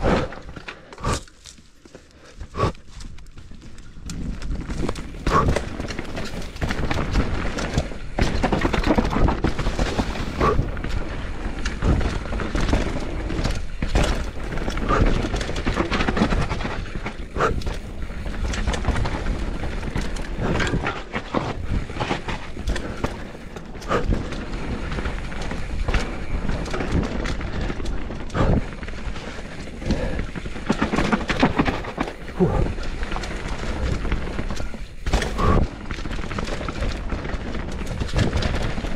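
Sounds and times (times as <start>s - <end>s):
bike tyres crunching over dirt: 0.0s - 38.9s
bike frame knocks and rattles: 2.6s - 38.9s.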